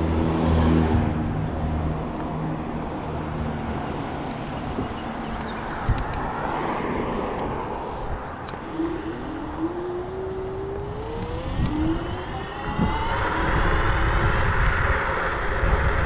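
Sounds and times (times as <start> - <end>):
rising whine: 0.0 - 16.0
road and traffic noise: 0.0 - 16.0.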